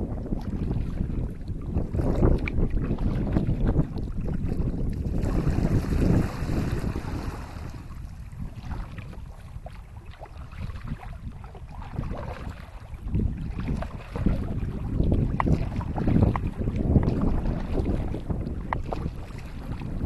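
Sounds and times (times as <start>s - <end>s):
paddle water splashes: 0.0s - 20.0s
wind buffeting microphone: 0.0s - 20.0s.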